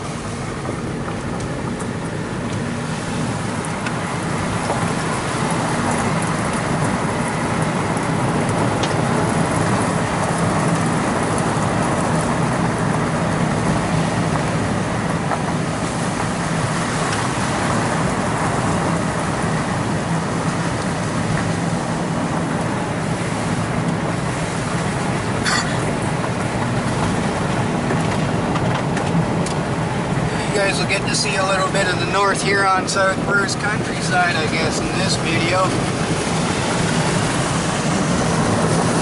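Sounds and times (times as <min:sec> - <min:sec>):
car engine hum: 0:00.0 - 0:39.0
tyre and road noise: 0:00.0 - 0:39.0.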